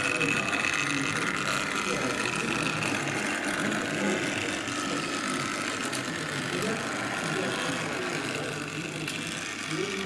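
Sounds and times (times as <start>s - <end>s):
model locomotive motor whine: 0.0s - 10.0s.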